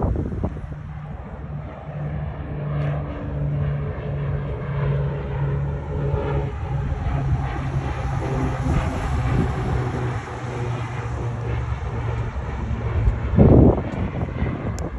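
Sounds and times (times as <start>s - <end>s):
low mechanical drone: 0.0s - 14.9s.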